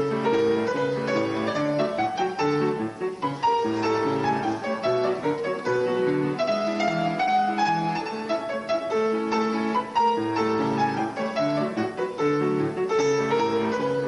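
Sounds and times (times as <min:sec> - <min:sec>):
classical piano music: 0:00.0 - 0:14.0.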